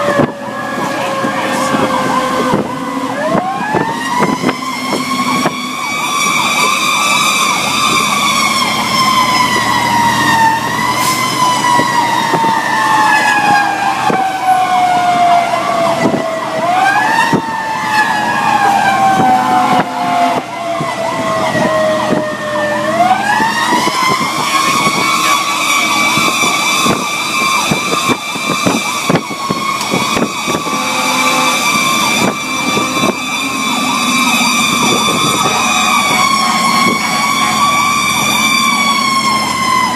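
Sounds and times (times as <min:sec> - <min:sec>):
fast warbling siren: 0:00.0 - 0:39.9
fire engine siren wailing: 0:00.0 - 0:39.9.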